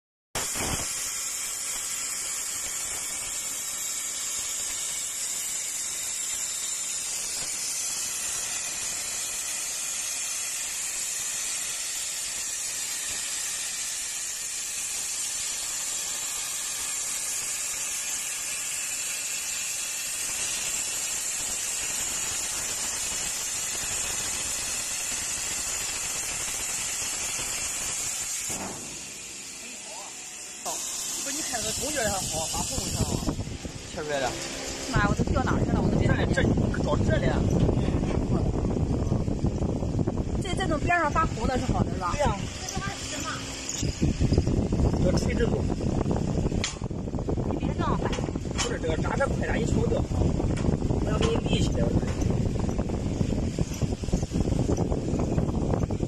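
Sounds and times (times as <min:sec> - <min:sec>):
plasma torch hissing: 0:00.4 - 0:56.0.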